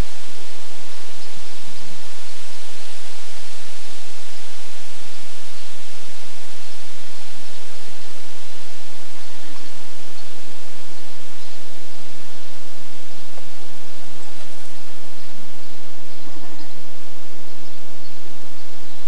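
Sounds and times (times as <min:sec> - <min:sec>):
tape hiss: 0:00.0 - 0:19.0.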